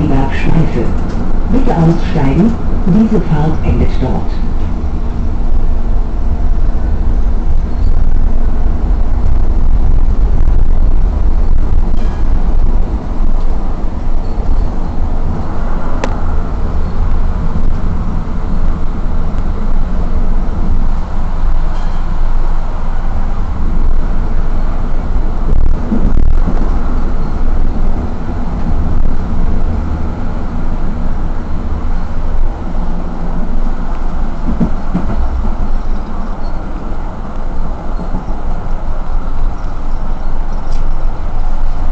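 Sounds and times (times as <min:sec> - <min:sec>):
low motor hum: 0:00.0 - 0:41.9
tram wheels rumbling on rails: 0:00.0 - 0:41.9.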